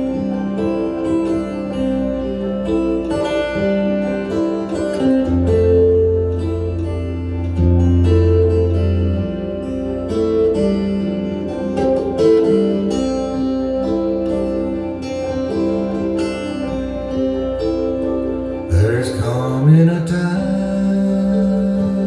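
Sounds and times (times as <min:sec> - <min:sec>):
guitar-led song over loudspeakers: 0:00.0 - 0:22.0.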